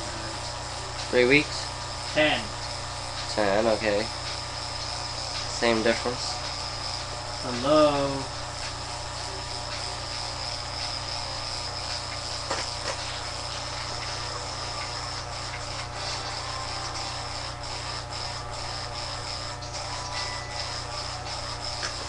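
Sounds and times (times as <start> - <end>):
electric hair clippers buzzing: 0.0 - 22.0.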